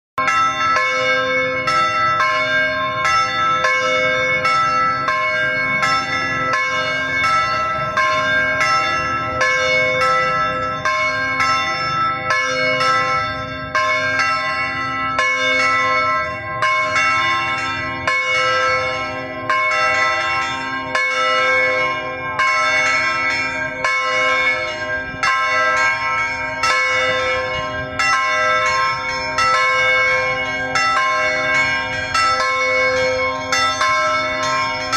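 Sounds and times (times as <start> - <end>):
church bells pealing: 0.2 - 34.9.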